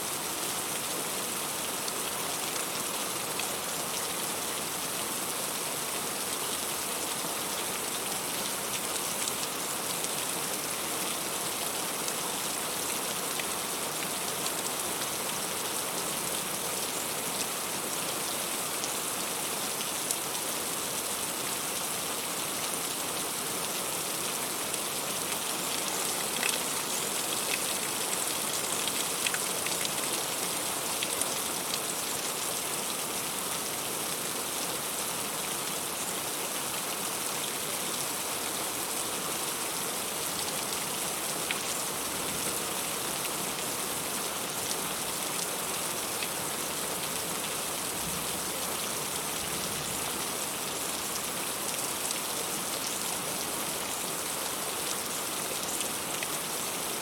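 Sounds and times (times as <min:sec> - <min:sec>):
heavy rain on leaves: 0:00.0 - 0:57.0.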